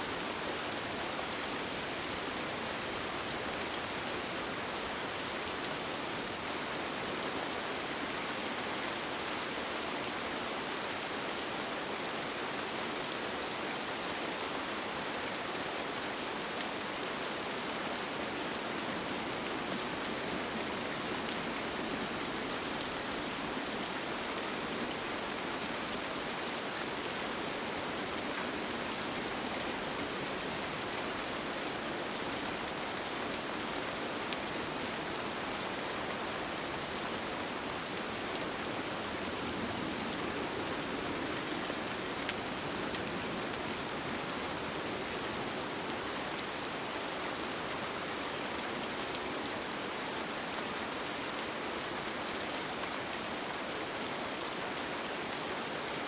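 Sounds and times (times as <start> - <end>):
rain falling on a tent: 0.0 - 56.0.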